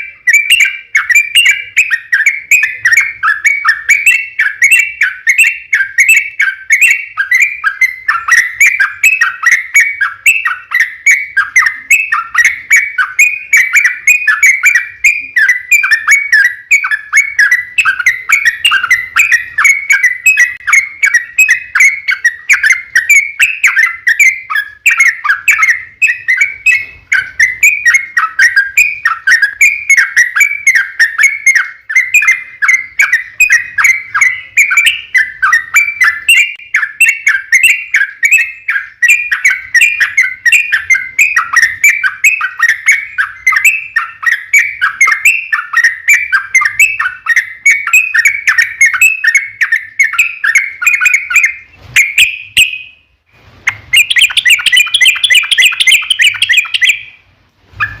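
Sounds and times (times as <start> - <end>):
bulbul chattering song: 0.0 - 53.1, 53.7 - 58.0.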